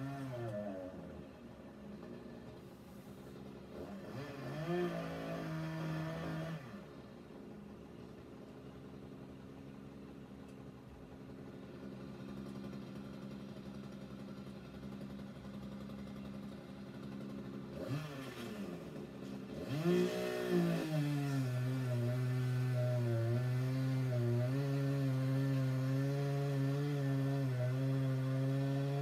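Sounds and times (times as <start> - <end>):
chainsaw engine droning and revving: 0.0 - 29.0.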